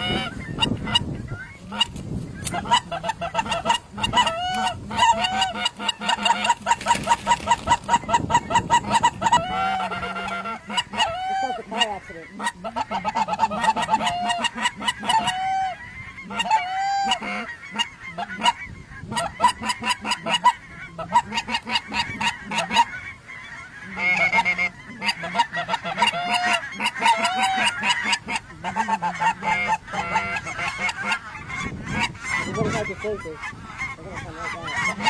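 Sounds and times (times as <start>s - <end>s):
goose honking: 0.0s - 35.0s.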